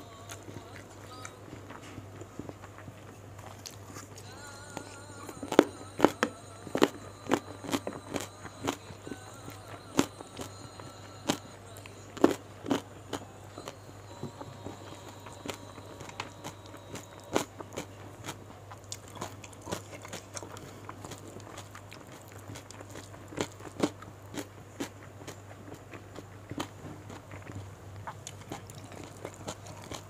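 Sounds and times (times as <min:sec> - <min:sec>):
low steady hum: 0:00.0 - 0:30.0
crunchy bites and chewing: 0:00.1 - 0:30.0.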